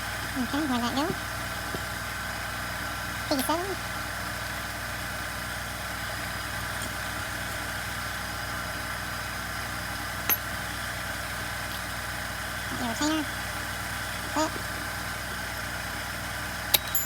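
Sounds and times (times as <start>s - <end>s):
mechanical hum with fixed tones: 0.0s - 17.0s.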